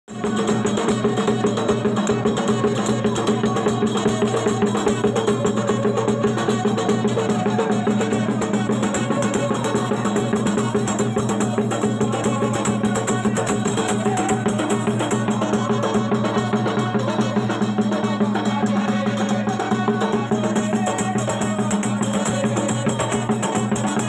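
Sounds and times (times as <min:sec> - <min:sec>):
fast dhol drumming: 0:00.1 - 0:24.0.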